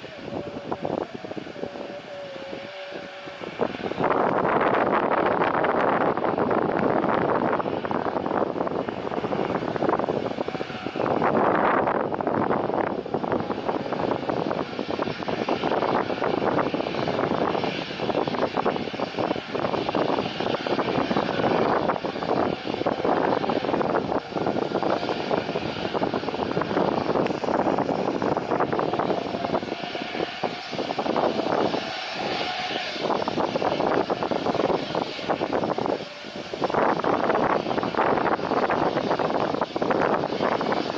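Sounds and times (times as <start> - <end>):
aircraft engines running: 0.0 - 40.9
steady whine: 0.0 - 40.9.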